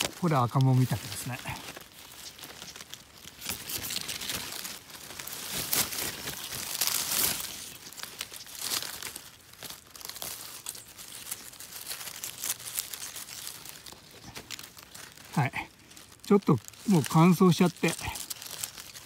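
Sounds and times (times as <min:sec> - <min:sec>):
rustling of dry leaves and twigs: 0:00.0 - 0:19.0.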